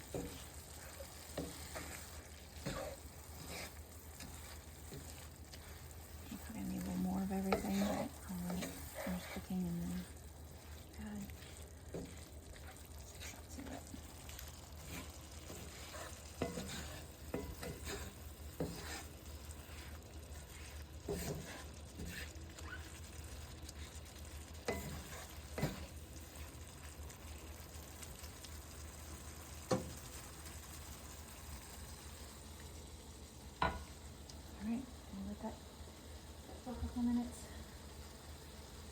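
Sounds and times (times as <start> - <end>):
meat sizzling in a pan: 0.0 - 38.9.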